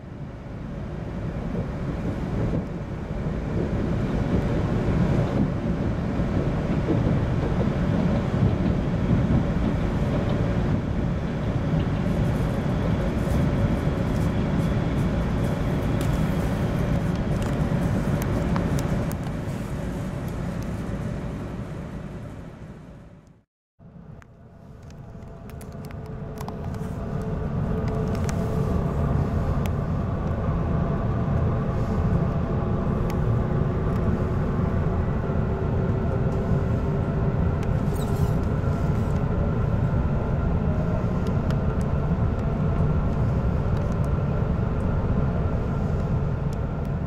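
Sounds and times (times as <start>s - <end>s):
train rumbling inside cabin: 0.0s - 47.0s.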